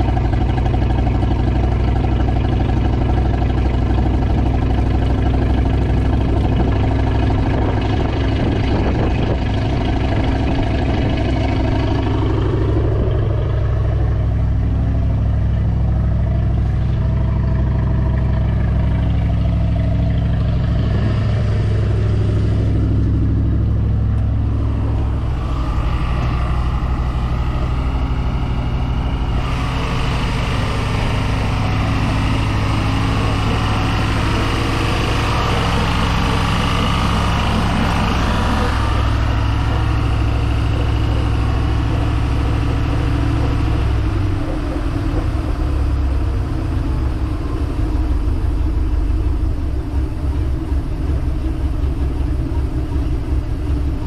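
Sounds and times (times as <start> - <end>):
boat engine idling: 0.0 - 54.0.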